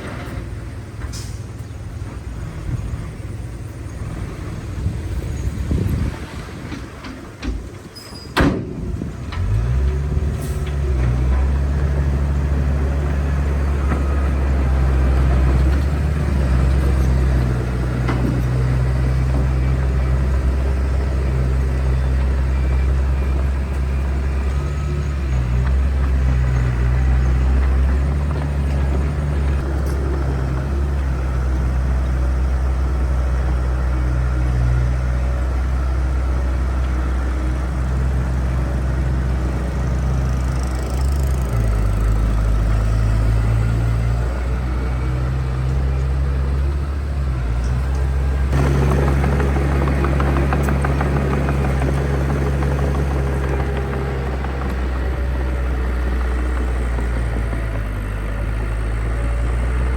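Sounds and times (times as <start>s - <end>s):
heavy diesel engine droning: 0.0s - 59.9s.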